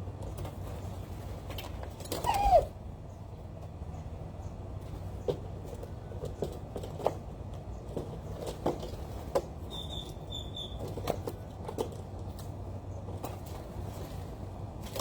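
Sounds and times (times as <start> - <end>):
birds pecking and scratching: 0.0 - 15.0.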